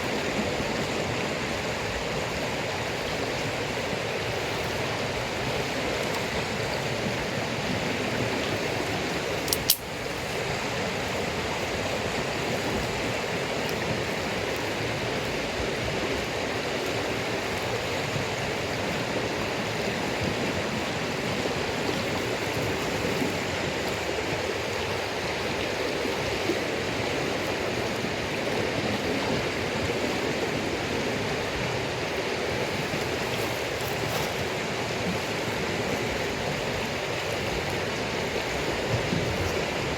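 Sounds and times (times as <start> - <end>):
running water hiss: 0.0 - 39.9.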